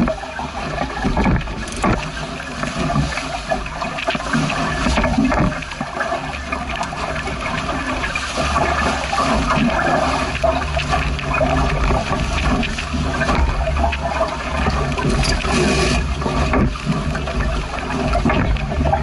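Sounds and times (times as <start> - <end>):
water rushing along boat hull: 0.0 - 19.0
wind rumble on microphone: 0.0 - 19.0.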